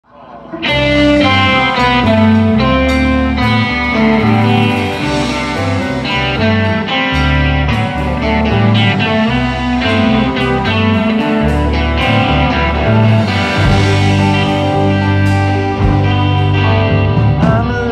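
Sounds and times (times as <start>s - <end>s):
rock band playing: 0.4s - 17.9s.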